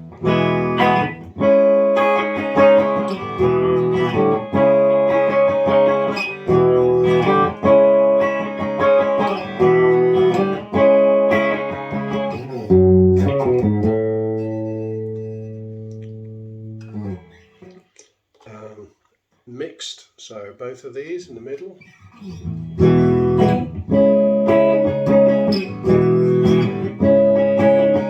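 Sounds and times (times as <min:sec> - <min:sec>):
electric guitar chords strummed: 0:00.0 - 0:17.3, 0:22.4 - 0:28.0.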